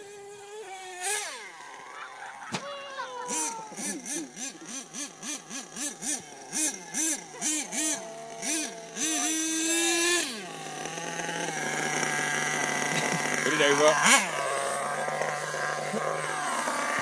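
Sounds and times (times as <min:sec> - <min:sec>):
model truck engine revving: 0:00.0 - 0:17.0.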